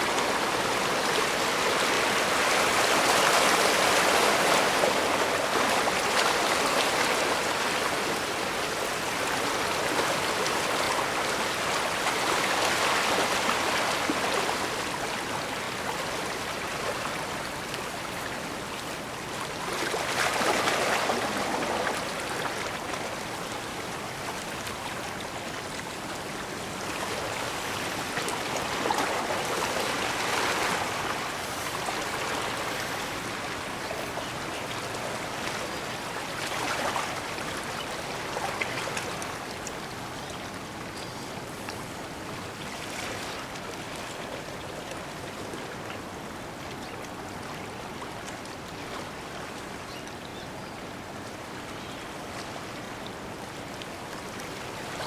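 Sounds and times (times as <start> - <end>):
small waves washing on shore: 0.0 - 49.9.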